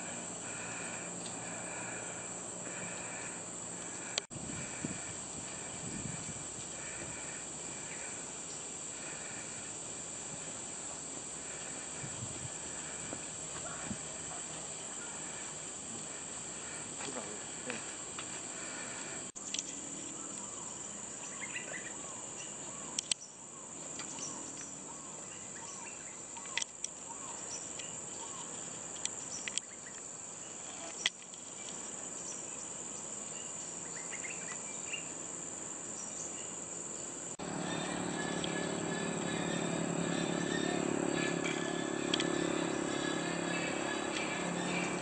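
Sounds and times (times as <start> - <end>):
high-pitched insect drone: 0.0 - 45.0.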